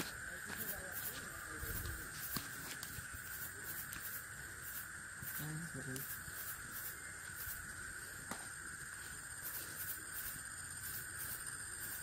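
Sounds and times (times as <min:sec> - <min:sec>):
insect chirps: 0:00.0 - 0:12.0
insects droning: 0:00.0 - 0:12.0.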